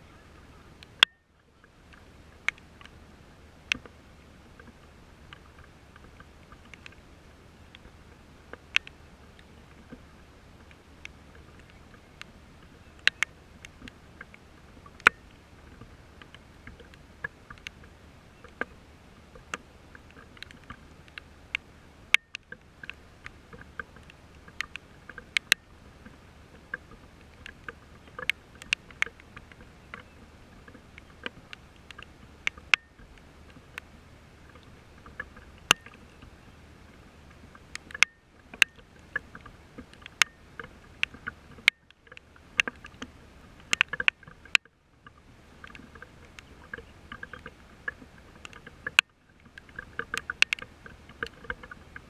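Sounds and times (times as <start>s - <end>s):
raindrops tapping near microphone: 0.0s - 52.0s
steady low hum: 0.0s - 52.0s.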